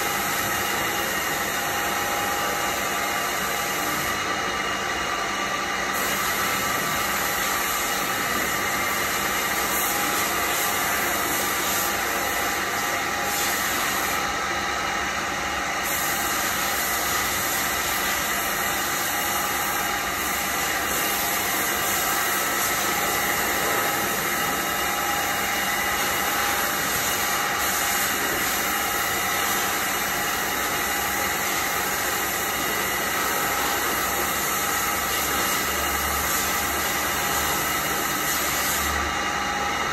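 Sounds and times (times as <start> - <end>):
machinery hiss and whine: 0.0 - 39.9.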